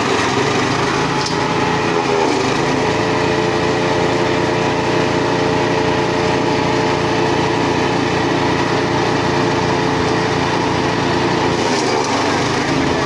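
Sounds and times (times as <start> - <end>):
wood chipper engine running: 0.0 - 13.0.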